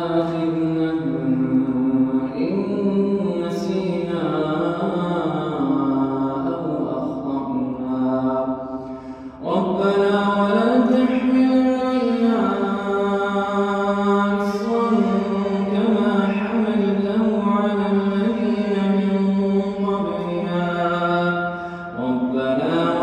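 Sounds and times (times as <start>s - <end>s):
man reciting melodically: 0.0s - 23.0s.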